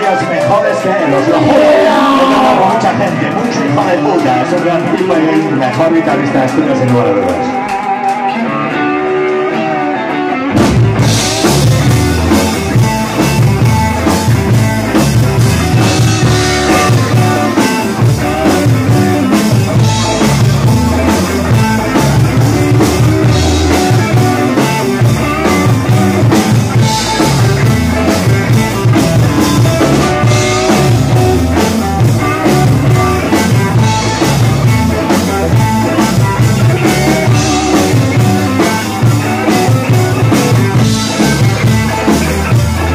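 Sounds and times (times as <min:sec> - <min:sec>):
drum kit: 0:00.0 - 0:42.9
electric guitar: 0:00.0 - 0:42.9
rock band playing: 0:00.0 - 0:42.9.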